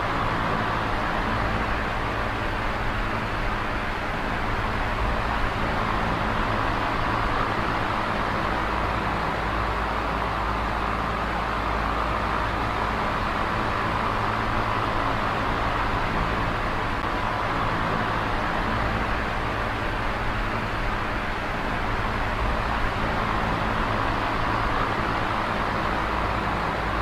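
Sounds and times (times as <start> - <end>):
electric fan running: 0.0 - 27.0.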